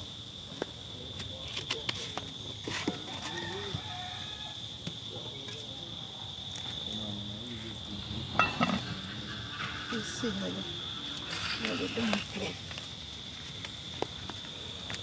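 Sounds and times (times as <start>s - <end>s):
high-pitched insect drone: 2.8s - 15.0s.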